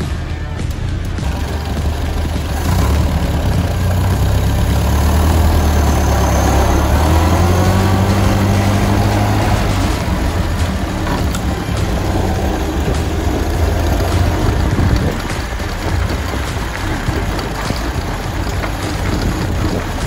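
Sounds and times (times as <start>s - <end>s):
old car engine running: 0.0s - 20.0s.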